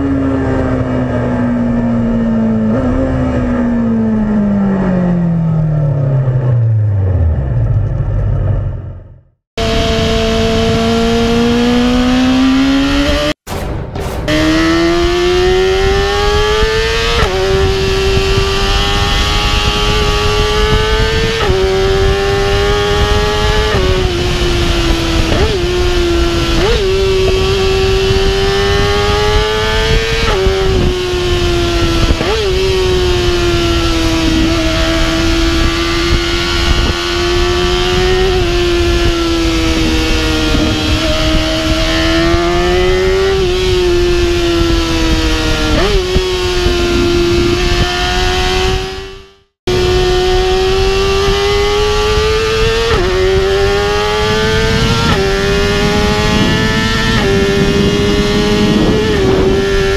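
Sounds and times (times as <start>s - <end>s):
wind and road rush: 0.0s - 59.9s
motorcycle engine pulling hard: 9.6s - 13.5s, 14.3s - 59.9s.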